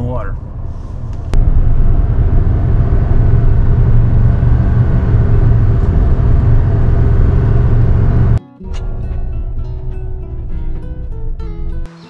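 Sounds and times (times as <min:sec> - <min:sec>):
car cabin road and engine rumble: 0:00.0 - 0:11.9.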